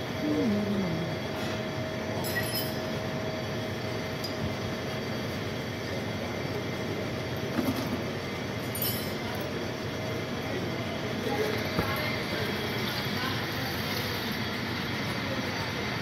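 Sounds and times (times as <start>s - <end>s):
faint constant whine: 0.0s - 16.0s
mechanical hum and hiss: 0.0s - 16.0s.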